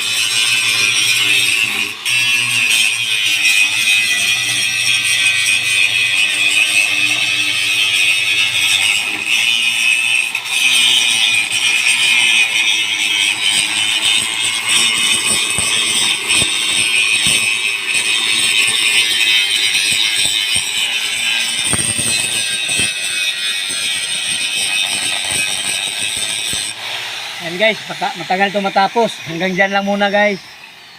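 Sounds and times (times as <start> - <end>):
angle grinder grinding metal: 0.0 - 30.9.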